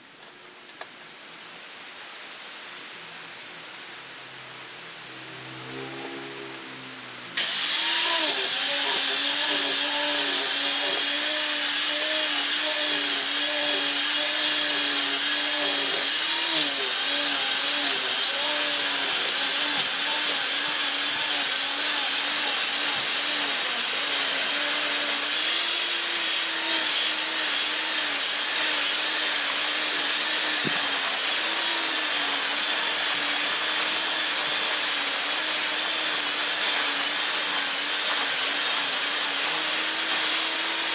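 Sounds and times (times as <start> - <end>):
electric sander on wood: 5.0 - 40.9.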